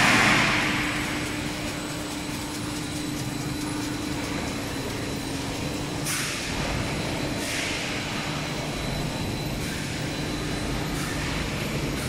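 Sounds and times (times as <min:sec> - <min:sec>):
machine line humming: 0:00.0 - 0:12.0.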